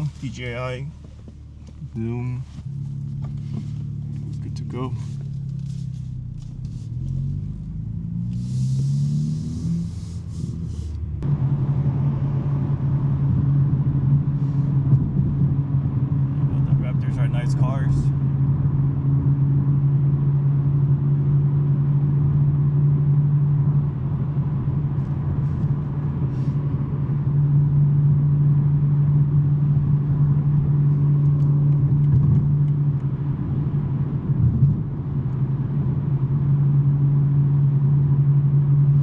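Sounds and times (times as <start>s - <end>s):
car exhaust droning: 0.0s - 39.0s.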